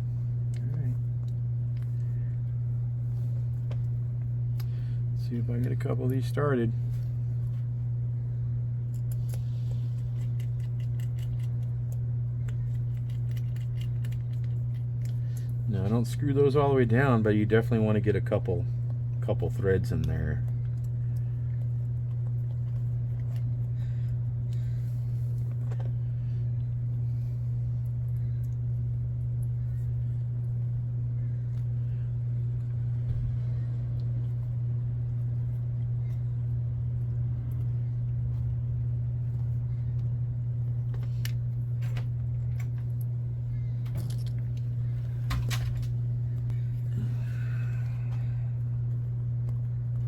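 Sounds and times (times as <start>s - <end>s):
low background hum: 0.0s - 50.0s.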